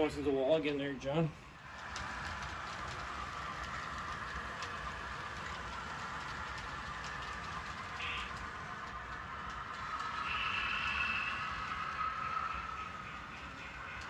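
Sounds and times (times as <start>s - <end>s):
model train running on track: 0.0s - 14.0s
faint clicks: 1.6s - 14.0s.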